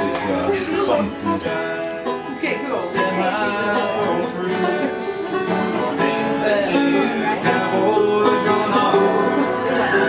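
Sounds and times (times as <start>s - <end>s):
acoustic guitar picking: 0.0s - 10.0s
banjo picking: 0.0s - 10.0s.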